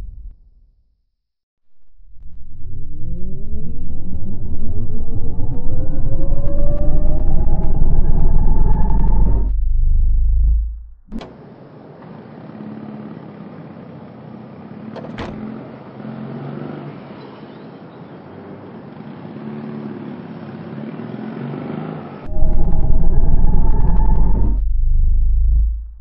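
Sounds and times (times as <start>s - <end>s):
vehicle traffic hum: 4.4s - 26.0s.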